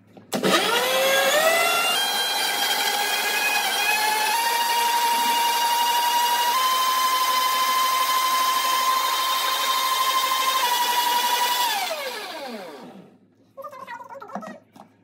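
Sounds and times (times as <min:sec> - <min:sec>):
motor spinning down: 0:00.4 - 0:13.0
mixer grinder motor whining: 0:00.4 - 0:13.2.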